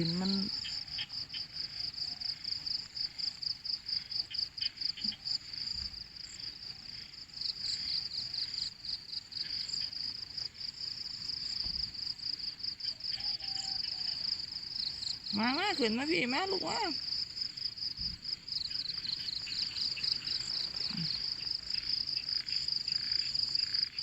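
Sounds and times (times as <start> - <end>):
insects chirping in rapid pulses: 0.0 - 24.0.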